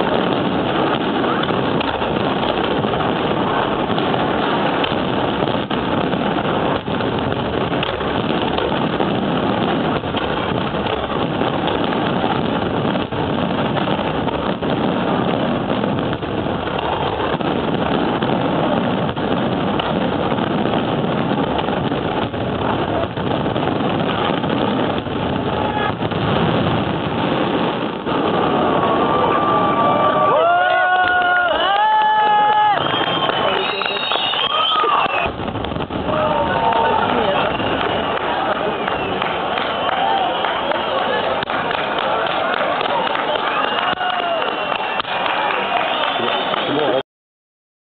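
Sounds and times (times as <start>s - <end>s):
fireworks bursts and crackling: 0.0s - 47.0s.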